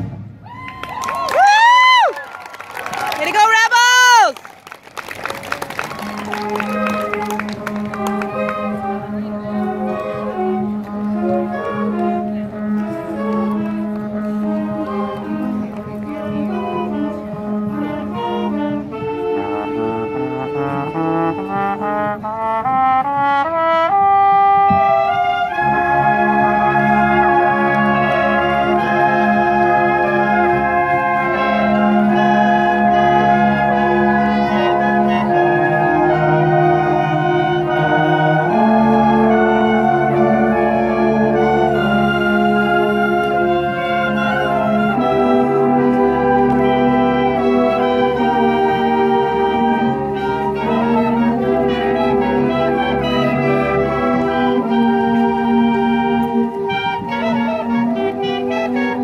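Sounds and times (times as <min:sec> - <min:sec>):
marching band brass chords: 0:00.0 - 0:00.7, 0:05.0 - 0:59.0.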